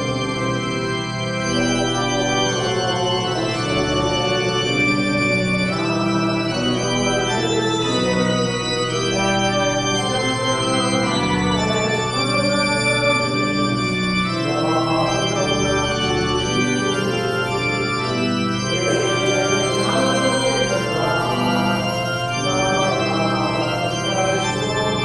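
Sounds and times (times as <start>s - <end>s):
organ music: 0.0s - 25.0s.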